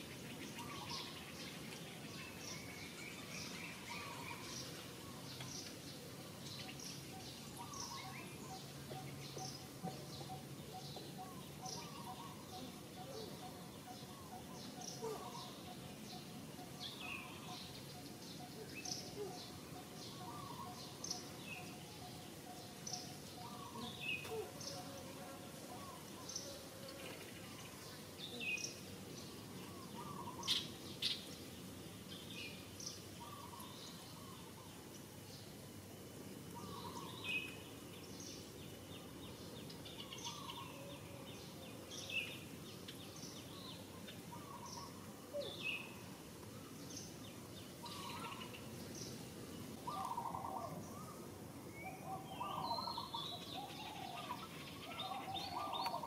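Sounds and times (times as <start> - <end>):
outdoor background noise: 0.0 - 56.0
birds calling: 6.5 - 25.0, 25.7 - 31.3, 32.1 - 34.7, 36.5 - 56.0.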